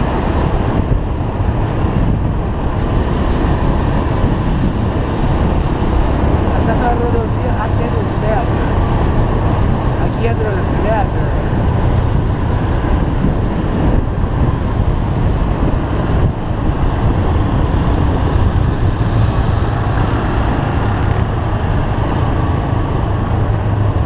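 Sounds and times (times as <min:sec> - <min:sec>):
motorcycle engine: 0:00.0 - 0:24.0
road noise: 0:00.0 - 0:24.0
wind rushing on microphone: 0:00.0 - 0:24.0.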